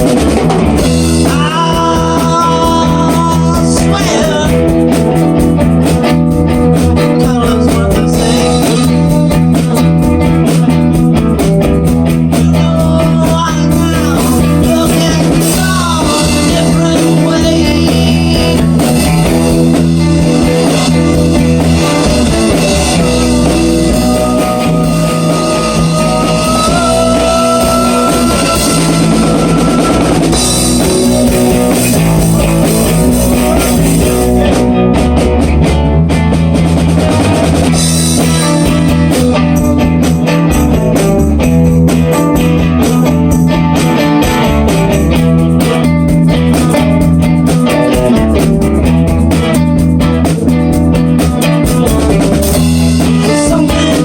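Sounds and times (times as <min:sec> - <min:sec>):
driving drum kit: 0:00.0 - 0:54.0
electric guitar riff: 0:00.0 - 0:54.0.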